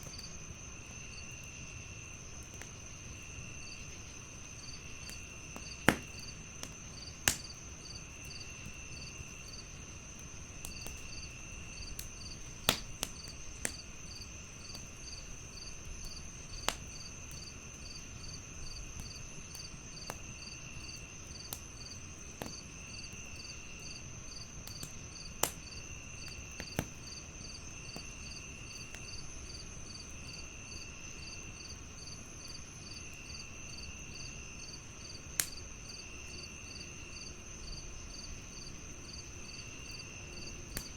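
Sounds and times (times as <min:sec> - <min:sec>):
wood fire crackling and popping: 0:00.0 - 0:36.5, 0:37.9 - 0:40.9
crickets chirping: 0:00.0 - 0:40.9.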